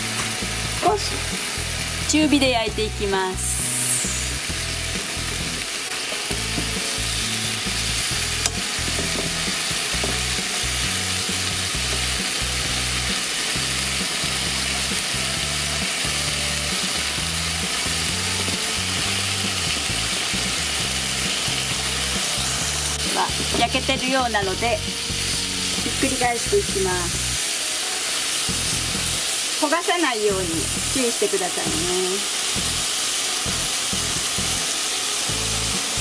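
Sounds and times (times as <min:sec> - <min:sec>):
pork sizzling in a frying pan: 0:00.0 - 0:36.0.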